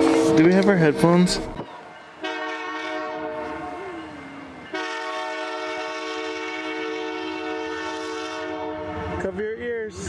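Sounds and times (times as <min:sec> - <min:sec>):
train horn blasts: 0:00.0 - 0:01.2, 0:02.2 - 0:09.4.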